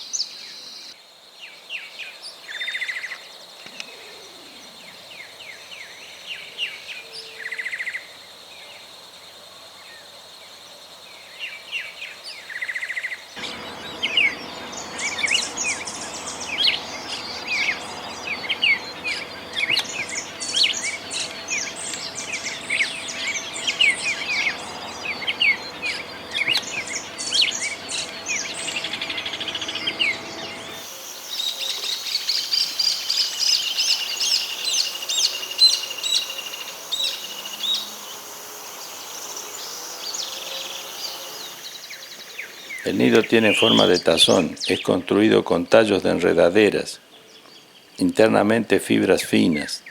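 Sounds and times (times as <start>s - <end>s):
songbirds singing: 0.0s - 49.9s.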